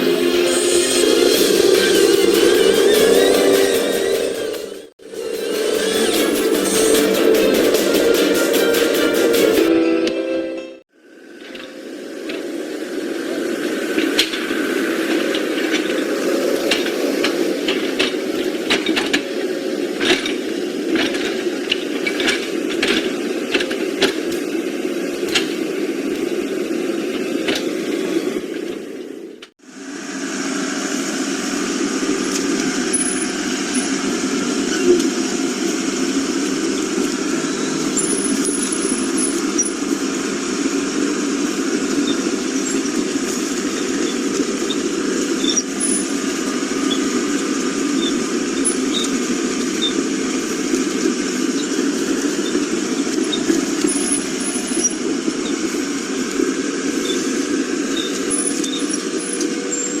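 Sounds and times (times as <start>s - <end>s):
diesel construction machinery running: 0.0s - 60.0s.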